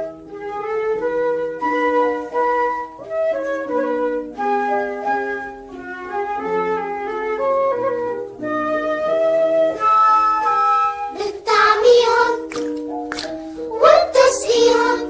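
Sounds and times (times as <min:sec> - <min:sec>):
children's song instrumental melody: 0:00.0 - 0:15.0.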